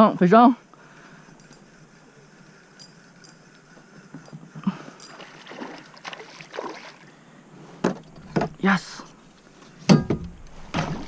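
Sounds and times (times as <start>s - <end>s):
water sloshing and rubbing: 1.2s - 11.0s.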